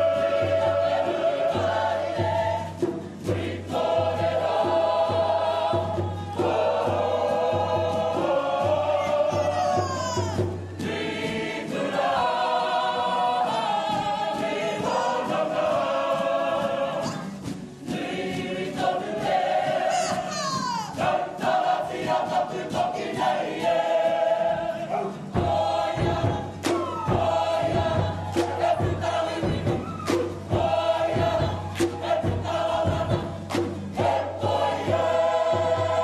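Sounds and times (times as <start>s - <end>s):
group singing in unison: 0.0s - 36.0s.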